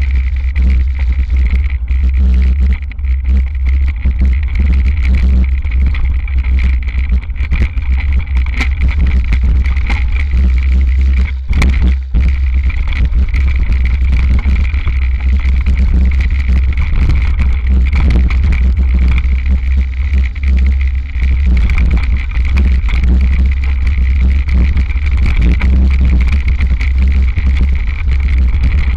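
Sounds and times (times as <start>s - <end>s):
bike clicking and rattling: 0.0s - 28.9s
wind rumble on microphone: 0.0s - 28.9s.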